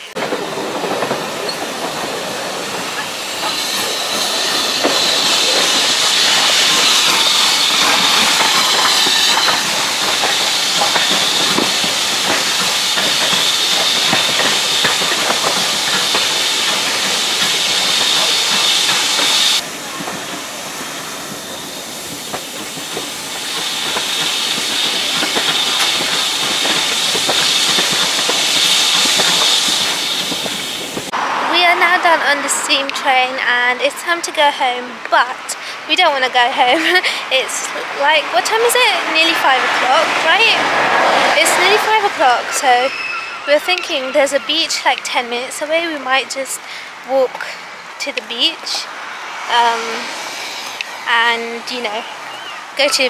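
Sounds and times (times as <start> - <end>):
steam train hissing: 0.0 - 53.0.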